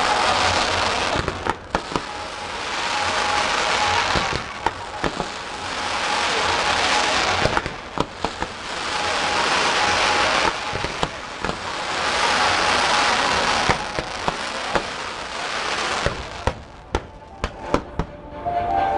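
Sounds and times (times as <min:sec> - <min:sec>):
fireworks crackling hiss: 0:00.0 - 0:18.1
fireworks bursting bangs: 0:00.0 - 0:18.2.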